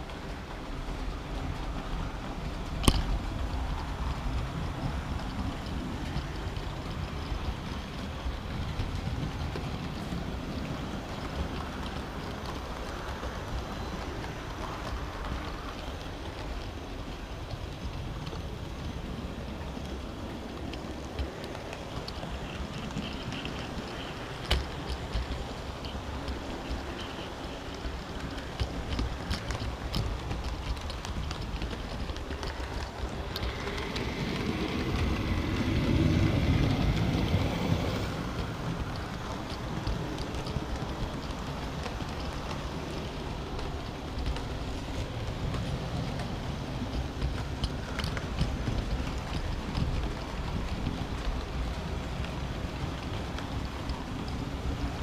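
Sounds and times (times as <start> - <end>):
model train wheels and motor whirring: 0.0 - 55.0
sharp track clicks: 0.0 - 55.0
wheels ticking over rails: 0.0 - 55.0.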